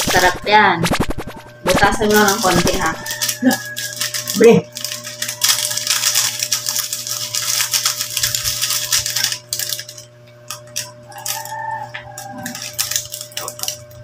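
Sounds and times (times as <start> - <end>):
plastic sachet crinkling: 0.0 - 14.0.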